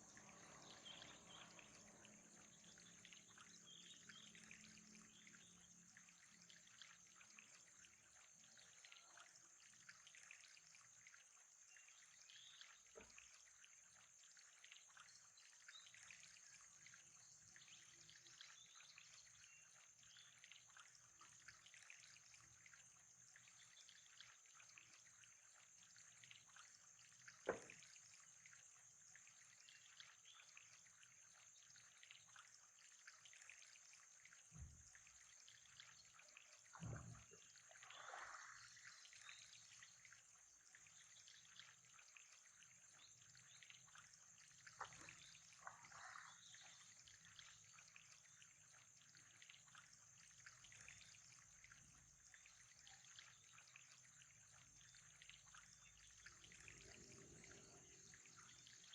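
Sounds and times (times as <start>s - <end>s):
small splashes: 0.0s - 58.9s
water trickling: 0.0s - 58.9s.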